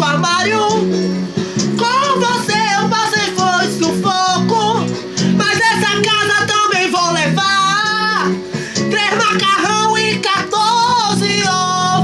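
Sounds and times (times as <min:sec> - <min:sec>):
person singing: 0:00.0 - 0:01.0, 0:01.6 - 0:12.0
acoustic guitar: 0:00.0 - 0:12.0.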